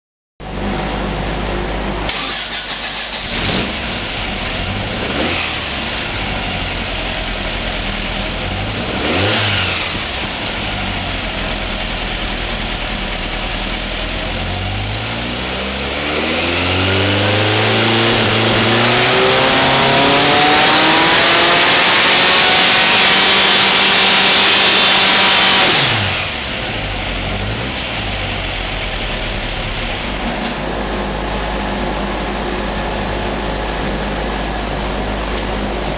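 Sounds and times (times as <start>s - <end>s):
car engine idling and revving: 0.4s - 35.9s.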